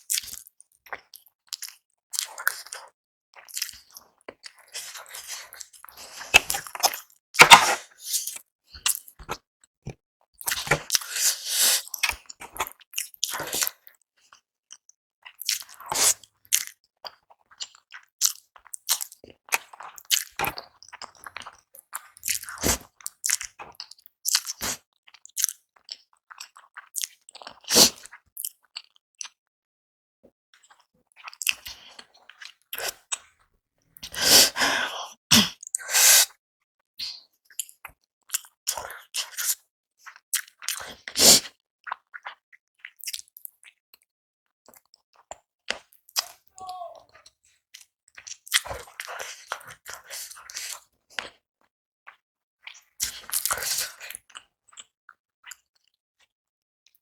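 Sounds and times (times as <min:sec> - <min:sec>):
wet chewing and smacking: 0:00.0 - 0:29.4, 0:30.6 - 0:33.4, 0:37.0 - 0:51.4, 0:52.1 - 0:56.3.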